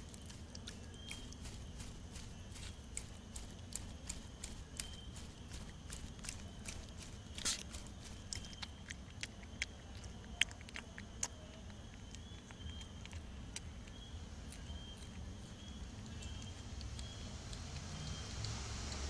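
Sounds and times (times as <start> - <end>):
animal chewing with wet smacks: 0.0 - 19.0.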